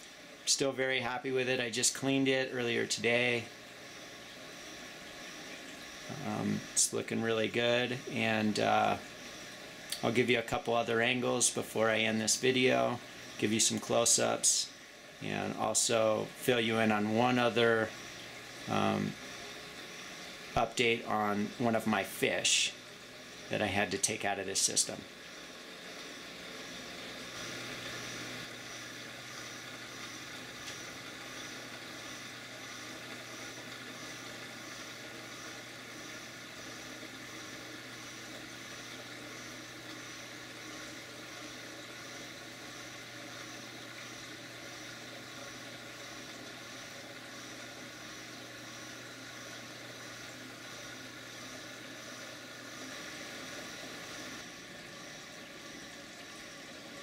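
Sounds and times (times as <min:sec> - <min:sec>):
aquarium pumps circulating water: 0:00.0 - 0:57.0.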